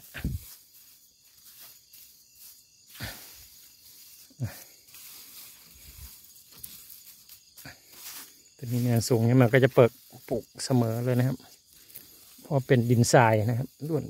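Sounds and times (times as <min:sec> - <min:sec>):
hand patting sandy soil: 0:00.0 - 0:14.0
night insects chirring: 0:00.0 - 0:14.0.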